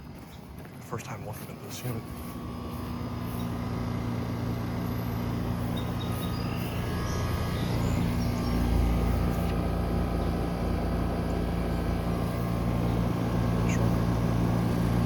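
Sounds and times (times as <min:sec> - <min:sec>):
compressor humming: 0:00.0 - 0:15.0
fan noise: 0:00.0 - 0:15.0.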